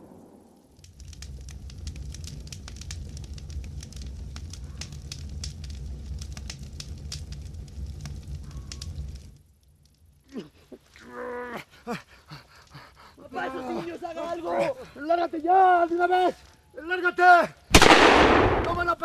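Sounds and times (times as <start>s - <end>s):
campfire crackling: 0.0s - 19.0s
low fire rumble: 0.0s - 19.0s.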